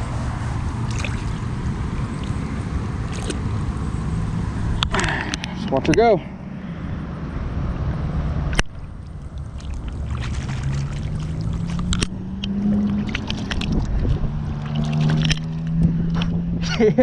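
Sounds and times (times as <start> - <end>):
engine hum rising in pitch: 0.0 - 17.0
steady low rumble: 0.0 - 17.0.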